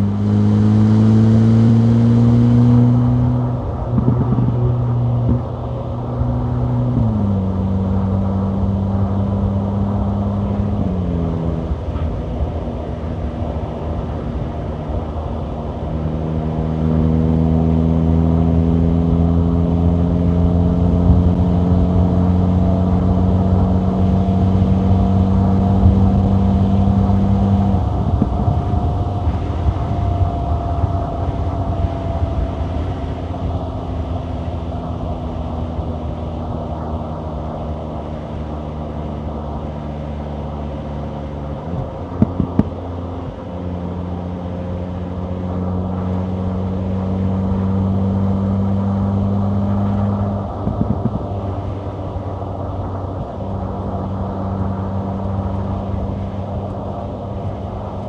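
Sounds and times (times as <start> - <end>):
car engine while driving: 0.0 - 58.0
road noise: 0.0 - 58.0.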